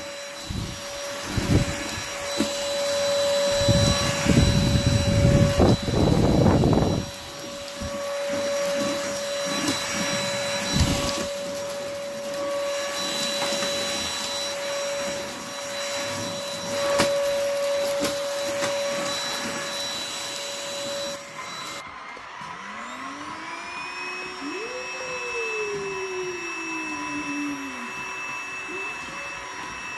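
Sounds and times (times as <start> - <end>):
vacuum cleaner running: 0.0 - 29.9.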